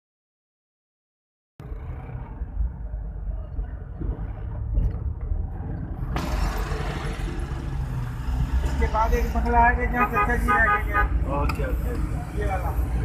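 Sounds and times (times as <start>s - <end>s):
vehicle engine and road rumble: 1.6s - 13.0s.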